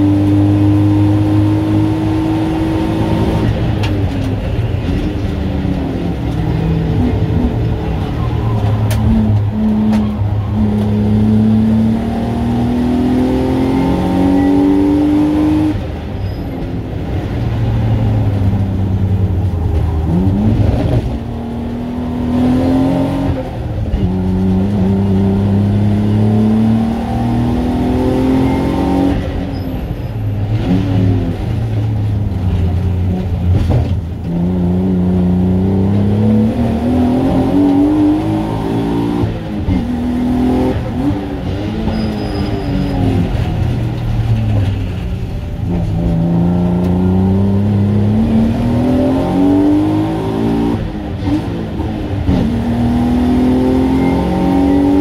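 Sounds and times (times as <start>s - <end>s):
race car engine revving: 0.0s - 16.0s, 18.1s - 29.4s, 30.4s - 55.0s.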